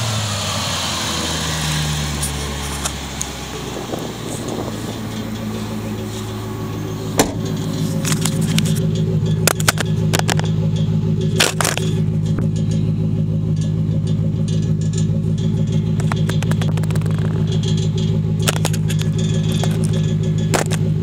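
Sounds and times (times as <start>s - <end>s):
car engine idling: 0.0s - 21.0s
sharp clicks and knocks: 2.2s - 21.0s.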